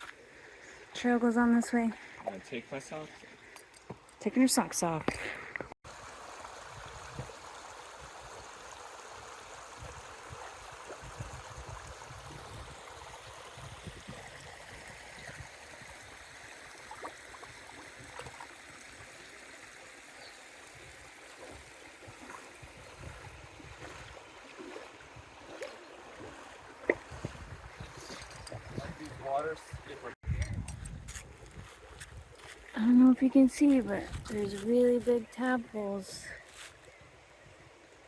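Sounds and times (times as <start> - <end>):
creek water flowing: 0.0 - 30.4, 31.3 - 38.0.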